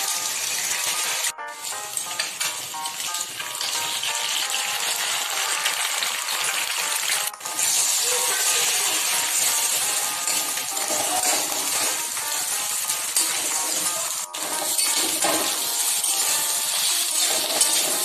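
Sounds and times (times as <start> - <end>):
background music: 0.0 - 18.0
egg sizzling in hot oil: 0.0 - 18.0.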